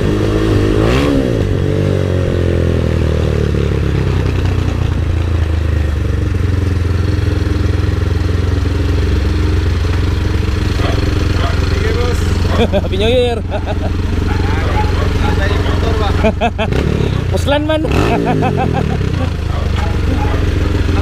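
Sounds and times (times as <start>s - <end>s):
motorcycle engine revving and idling: 0.0s - 21.0s.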